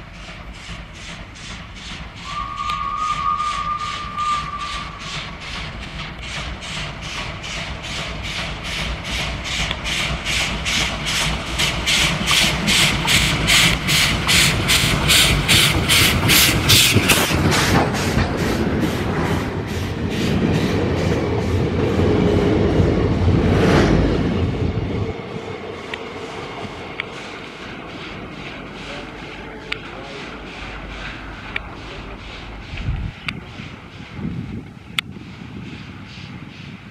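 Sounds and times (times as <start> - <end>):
steam locomotive exhaust beats: 0.0 - 36.9
train coaches rumbling on rails: 0.0 - 36.9.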